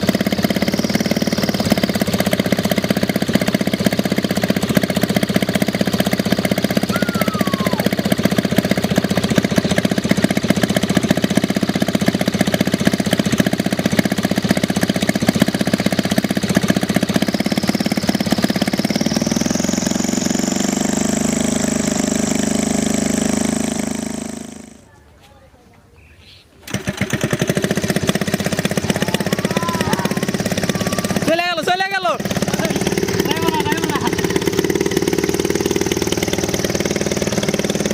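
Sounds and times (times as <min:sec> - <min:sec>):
aircraft engine running and revving: 0:00.0 - 0:24.8, 0:26.7 - 0:37.9.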